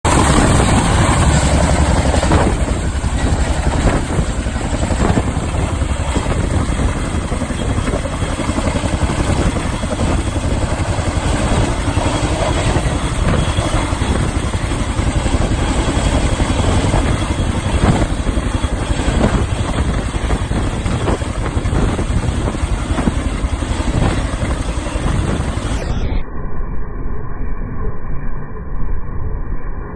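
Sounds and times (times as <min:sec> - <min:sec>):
helicopter engines noise: 0:00.0 - 0:26.2
helicopter rotor blades beating: 0:00.0 - 0:26.2.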